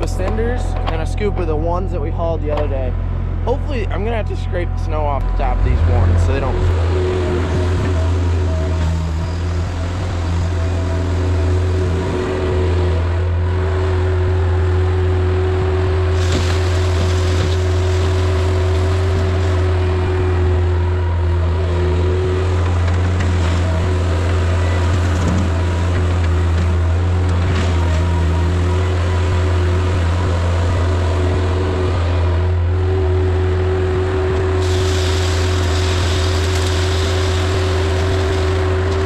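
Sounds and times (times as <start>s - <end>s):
skid steer engine running: 0.0s - 39.0s.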